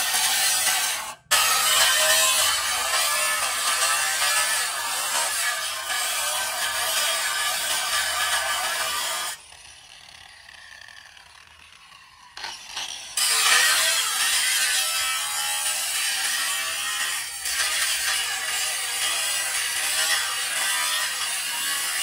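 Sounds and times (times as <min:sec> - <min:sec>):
angle grinder cutting steel: 0:00.0 - 0:22.0.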